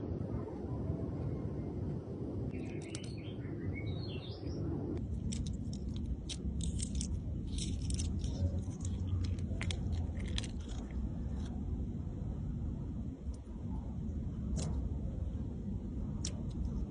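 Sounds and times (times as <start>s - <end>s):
low steady rumble: 0.0s - 16.9s.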